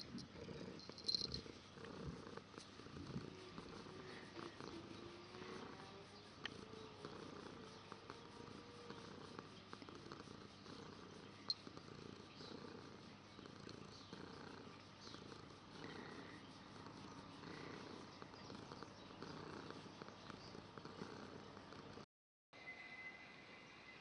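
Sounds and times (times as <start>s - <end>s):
cat purring: 0.0s - 22.1s.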